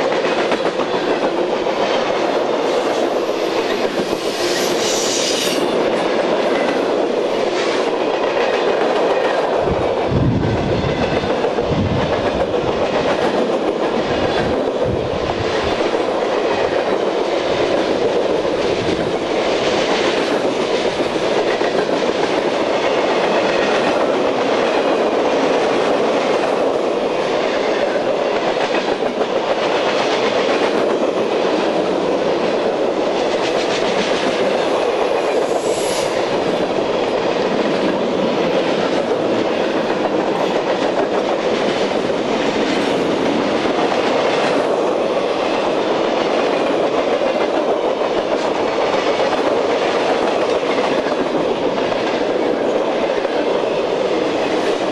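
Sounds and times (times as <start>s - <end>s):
clickety-clack over rail joints: 0.0s - 54.9s
train wheels rumbling on rail: 0.0s - 54.9s.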